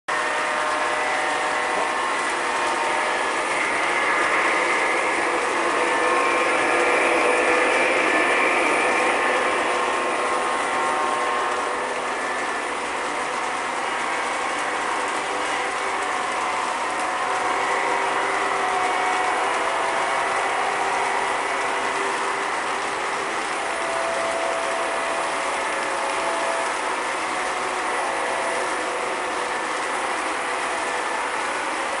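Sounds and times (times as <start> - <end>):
faint motor whines: 0.1 - 32.0
model trains whirring and clattering: 0.1 - 32.0.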